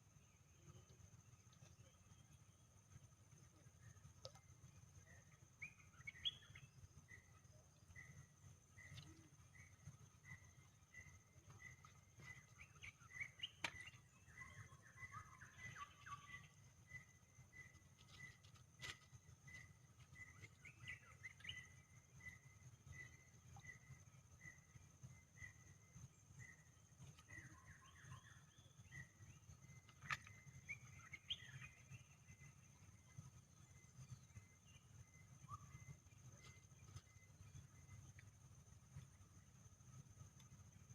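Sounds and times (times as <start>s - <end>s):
faint bird chirps: 0.0s - 40.9s.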